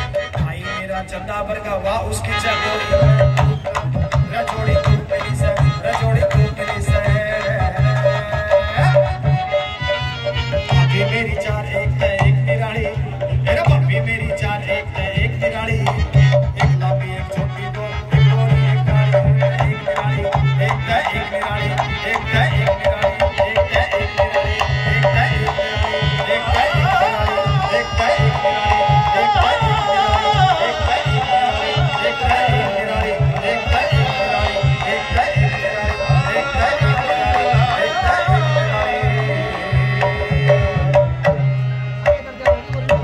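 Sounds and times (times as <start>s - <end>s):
folk melody line: 0.0s - 43.0s.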